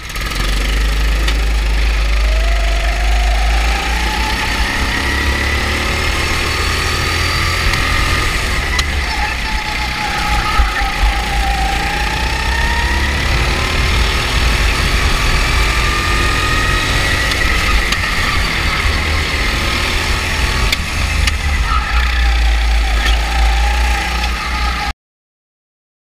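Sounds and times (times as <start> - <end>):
go-kart engines whining: 0.0 - 24.9
deep rumble: 0.6 - 24.9.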